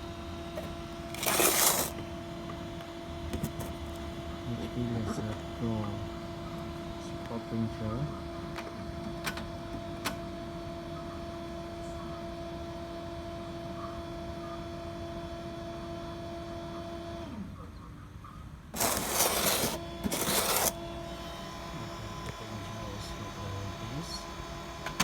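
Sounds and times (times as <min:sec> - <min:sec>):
printer motor hum: 0:00.0 - 0:17.4, 0:18.8 - 0:25.0.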